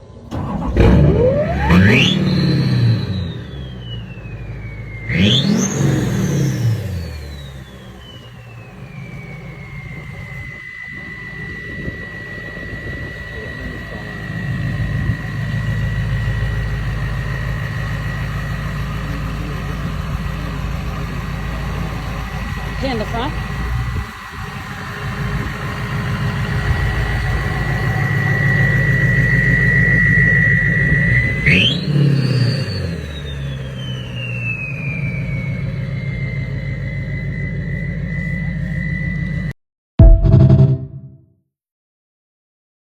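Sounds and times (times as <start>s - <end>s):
diesel engine revving: 0.0s - 39.5s
turbocharger whistle: 0.0s - 41.1s.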